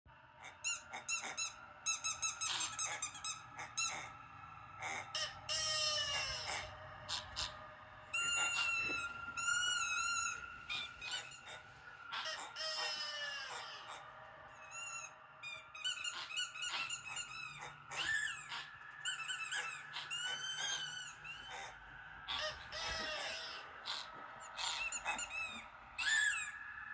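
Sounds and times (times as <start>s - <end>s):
high-pitched squeaks and chirps: 0.4s - 26.9s.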